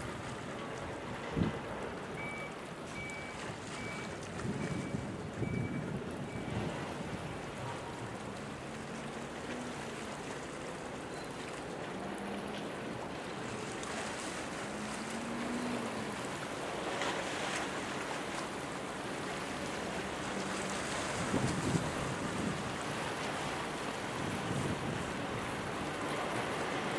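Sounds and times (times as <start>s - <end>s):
water noise: 0.0s - 26.9s
wind: 0.0s - 26.9s.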